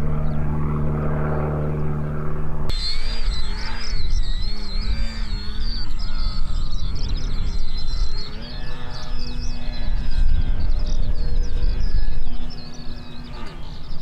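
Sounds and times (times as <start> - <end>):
birds chirping: 0.0 - 0.6, 2.7 - 14.0
model airplane motor whining: 0.0 - 14.0.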